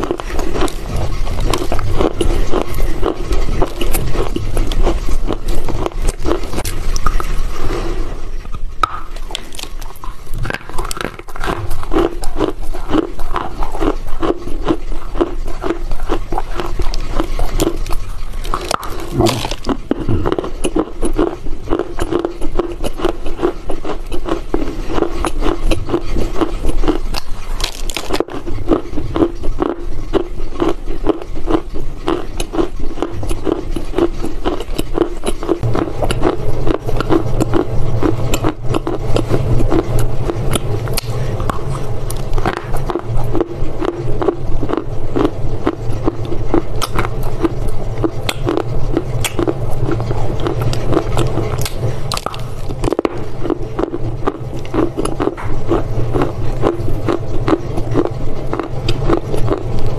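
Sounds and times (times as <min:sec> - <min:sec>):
low steady hum: 0:00.0 - 0:59.9
person chewing crunchy clay: 0:00.0 - 0:59.9.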